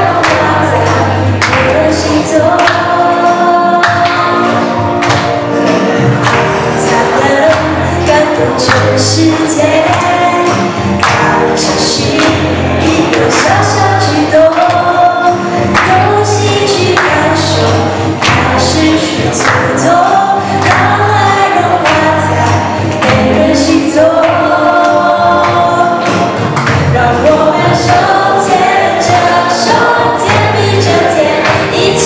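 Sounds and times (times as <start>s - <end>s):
backing track with beat and bass: 0.0s - 32.0s
group singing gospel song: 0.0s - 32.0s.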